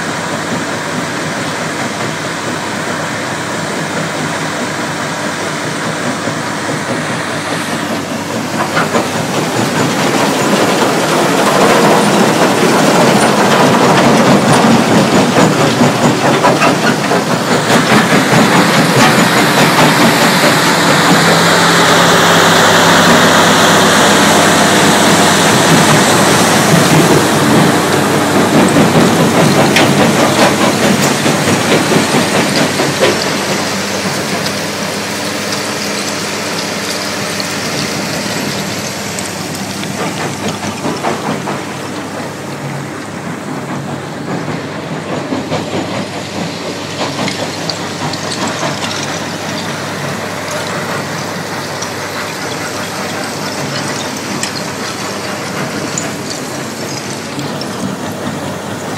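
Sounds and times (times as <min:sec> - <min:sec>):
diesel engine drone: 0:00.0 - 0:58.9.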